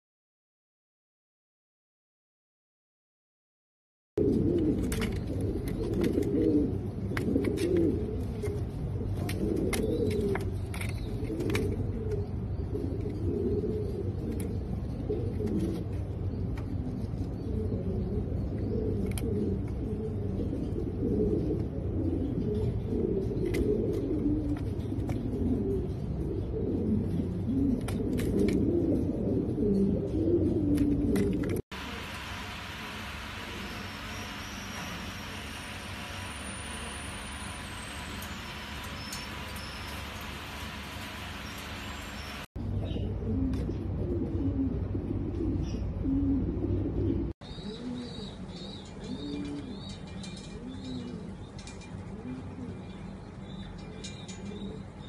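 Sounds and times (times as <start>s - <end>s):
pigeons cooing: 4.2s - 55.0s.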